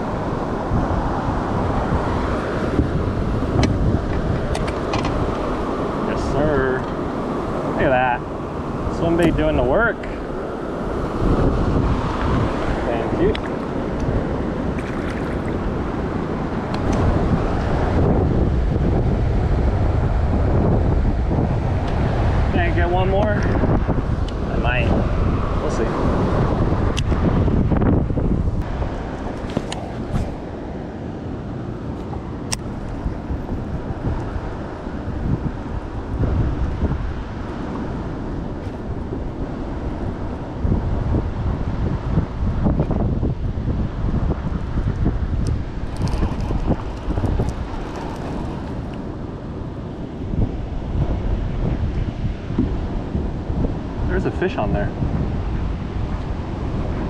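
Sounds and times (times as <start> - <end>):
steady rushing noise: 0.0 - 57.0
wind buffeting microphone: 0.0 - 57.0.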